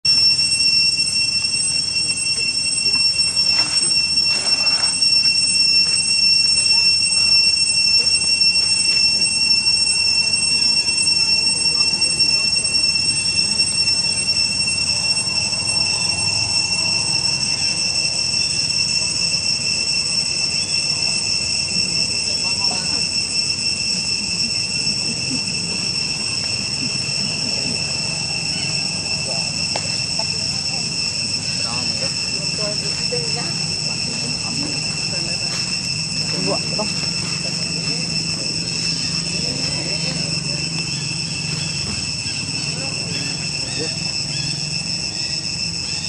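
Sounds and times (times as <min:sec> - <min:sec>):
high-pitched whine: 0:00.0 - 0:46.0.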